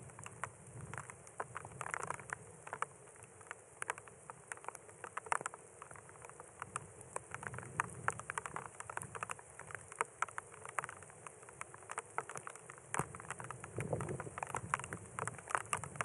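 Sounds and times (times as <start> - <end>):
raindrops ticking: 0.0 - 16.0
steady rain hiss: 0.0 - 16.0.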